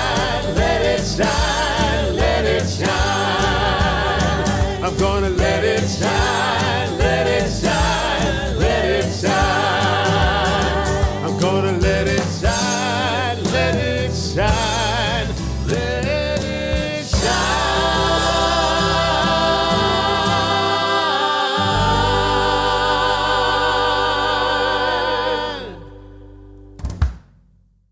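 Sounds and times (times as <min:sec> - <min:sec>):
gospel singing with backing: 0:00.0 - 0:26.7.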